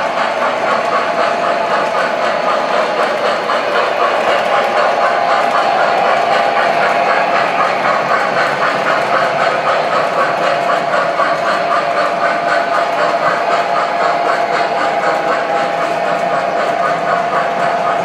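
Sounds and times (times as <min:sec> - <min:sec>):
model trains humming and clicking: 0:00.0 - 0:18.0.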